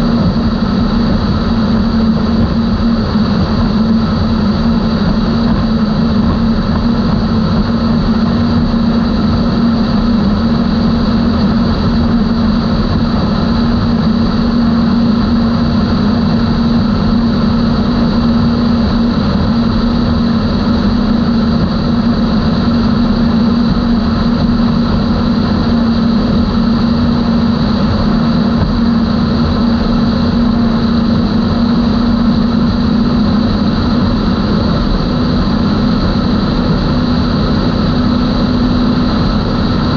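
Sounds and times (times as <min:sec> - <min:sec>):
faint high whine: 0:00.0 - 0:39.9
outboard engines cruising: 0:00.0 - 0:39.9.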